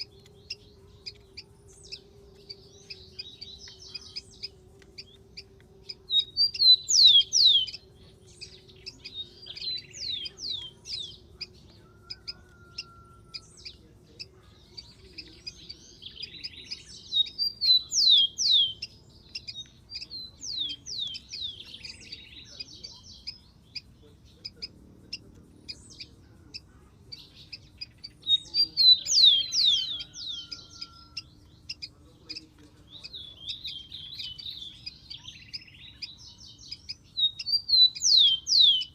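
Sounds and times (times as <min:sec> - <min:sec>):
soft bird chirps: 0:00.0 - 0:38.9
sparrow singing whistles and trill: 0:00.0 - 0:38.9.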